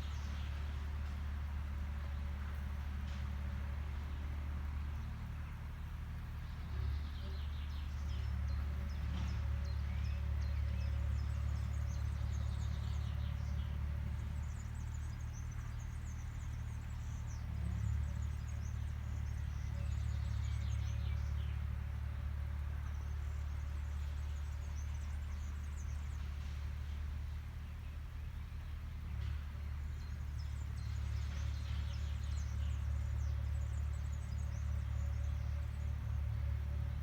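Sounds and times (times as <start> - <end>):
small birds chirping: 4.9 - 21.8, 22.6 - 37.0.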